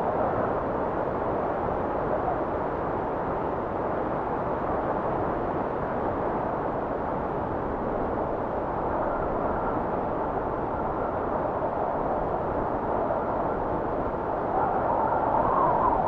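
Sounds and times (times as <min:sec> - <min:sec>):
steady blizzard wind: 0:00.0 - 0:16.0.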